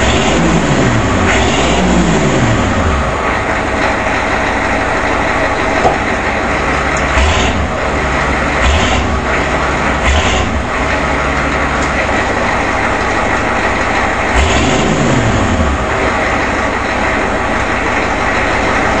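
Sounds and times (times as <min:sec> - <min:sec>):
diesel engine idling and revving: 0:00.0 - 0:19.0.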